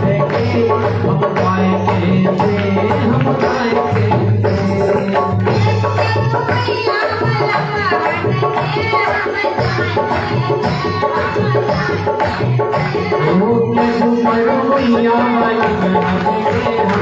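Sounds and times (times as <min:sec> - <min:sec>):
hand drum beat: 0:00.0 - 0:17.0.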